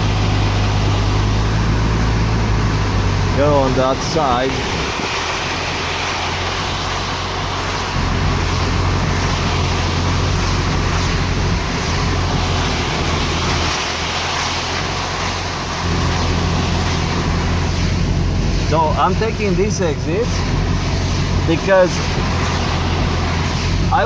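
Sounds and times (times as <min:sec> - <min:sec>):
car engine and road hum: 0:00.0 - 0:24.0
tyre hiss on wet road: 0:00.0 - 0:24.0.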